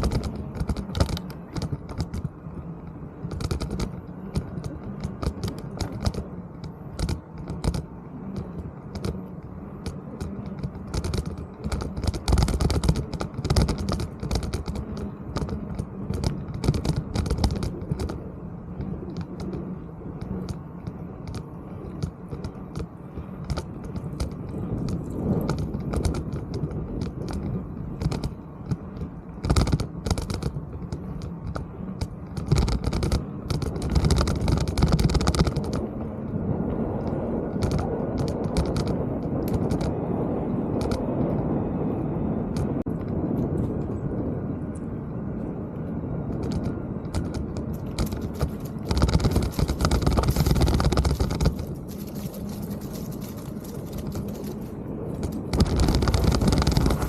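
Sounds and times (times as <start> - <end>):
bike rattling clicks and knocks: 0.0 - 41.8, 42.5 - 57.0
rumble of wind and tyres: 0.0 - 57.0.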